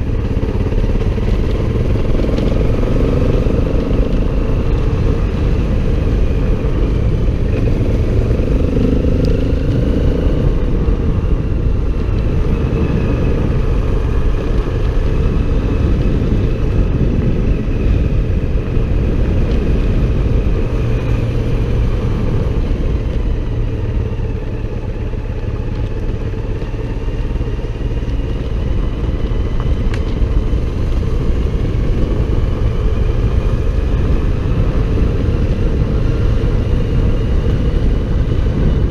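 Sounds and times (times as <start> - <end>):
motorcycle engine rumbling: 0.0 - 38.9.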